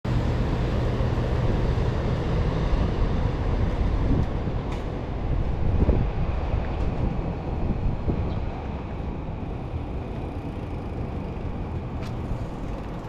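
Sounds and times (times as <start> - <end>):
urban vehicle rumble: 0.0 - 13.0.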